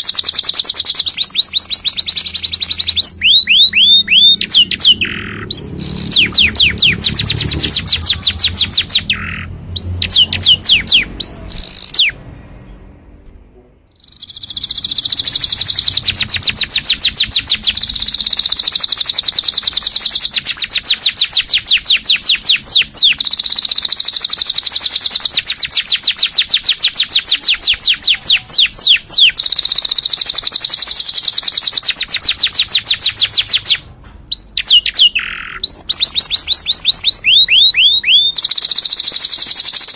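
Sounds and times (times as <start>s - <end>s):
canary singing trills: 0.0s - 13.0s, 13.9s - 39.9s.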